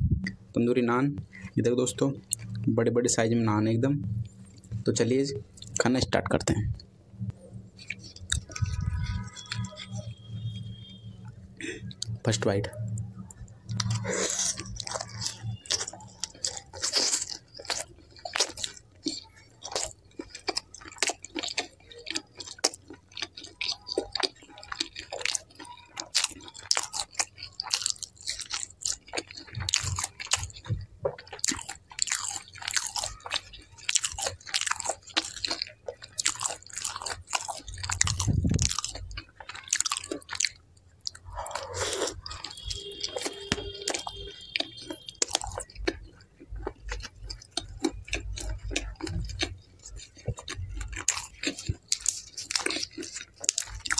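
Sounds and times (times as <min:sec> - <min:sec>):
chewing with mouth clicks: 0:01.2 - 0:03.4, 0:04.1 - 0:53.9.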